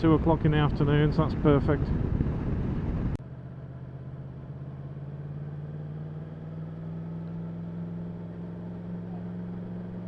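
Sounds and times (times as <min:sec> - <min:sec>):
motorcycle engine running: 0:00.9 - 0:10.0.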